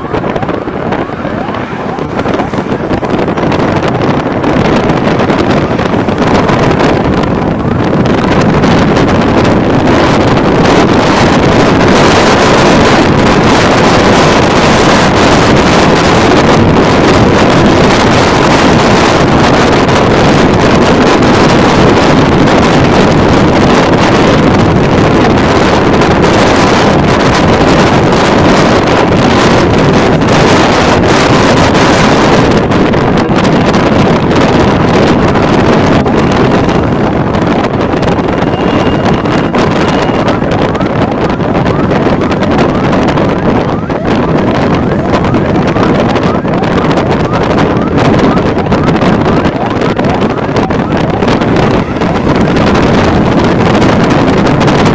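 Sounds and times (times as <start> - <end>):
road noise: 0.0 - 54.9
vehicle engine: 0.0 - 54.9
wind buffeting microphone: 0.0 - 54.9.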